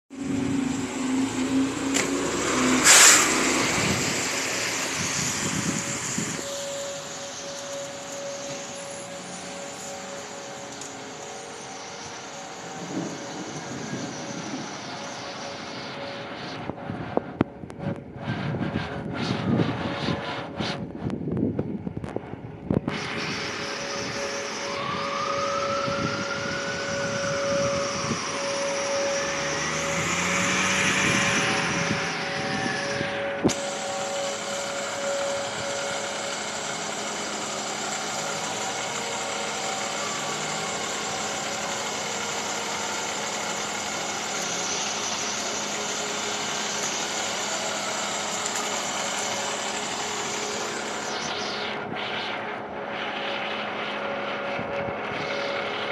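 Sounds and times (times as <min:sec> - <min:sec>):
truck engine running: 0:00.1 - 0:55.9.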